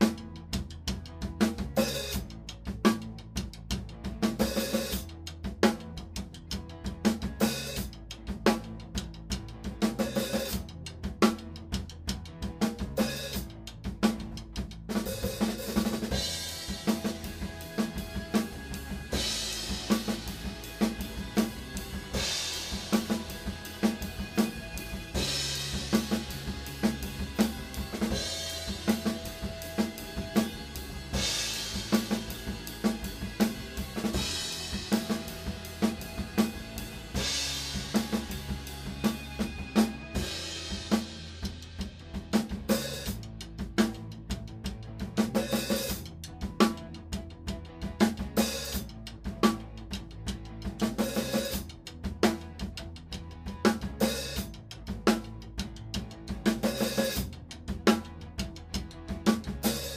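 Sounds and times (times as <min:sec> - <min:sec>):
drum kit groove: 0:00.0 - 0:59.9.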